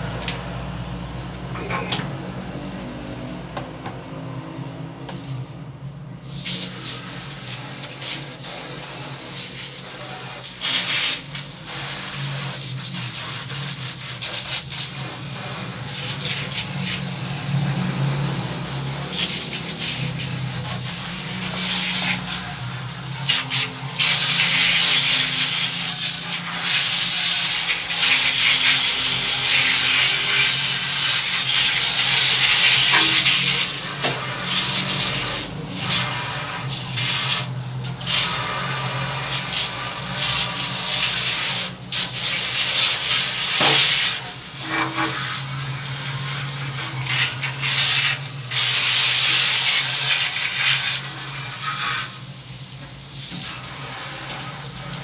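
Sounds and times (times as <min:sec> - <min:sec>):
running water splashing: 0:06.5 - 0:55.0.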